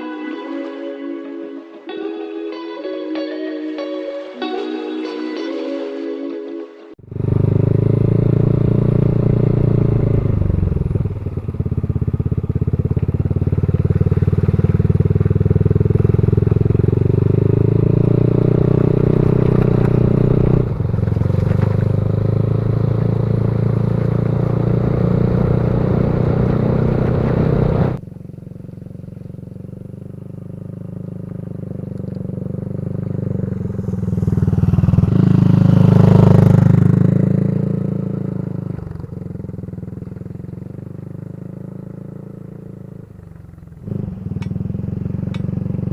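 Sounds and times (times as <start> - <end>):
motorcycle engine running: 7.0 - 45.9.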